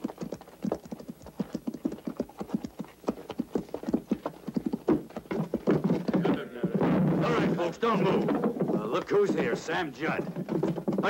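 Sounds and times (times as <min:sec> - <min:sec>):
horse hoofbeats on dirt: 0:00.0 - 0:11.0.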